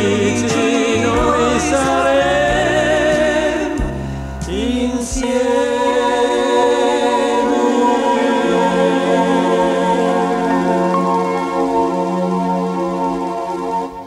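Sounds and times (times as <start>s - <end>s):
voices singing with vibrato: 0.0s - 12.4s
backing music: 0.0s - 14.0s
held instrumental chords: 0.0s - 14.0s.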